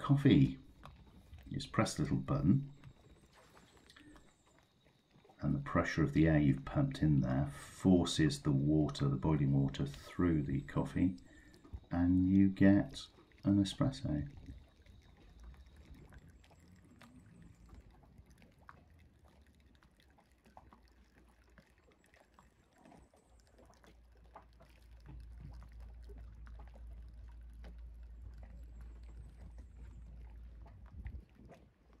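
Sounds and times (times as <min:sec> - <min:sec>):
faint low rumble: 0:00.0 - 0:04.6, 0:05.3 - 0:20.2, 0:23.1 - 0:32.0
faint ticks: 0:00.0 - 0:32.0.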